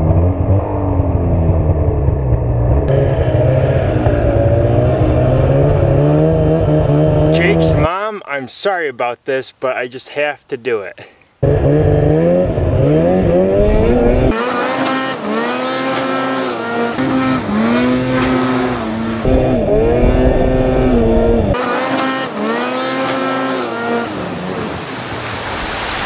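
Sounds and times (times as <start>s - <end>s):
snowmobile engine revving: 0.0s - 7.9s, 11.4s - 26.0s.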